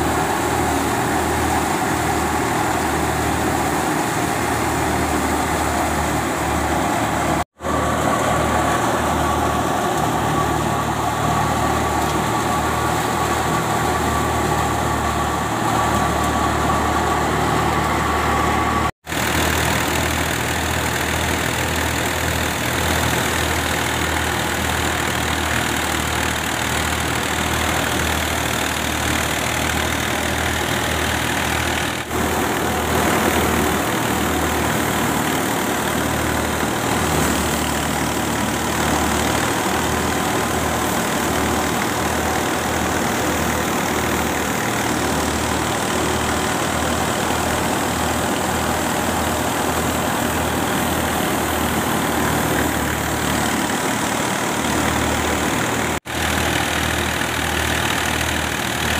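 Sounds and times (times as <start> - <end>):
tractor engine droning: 0.0 - 58.9.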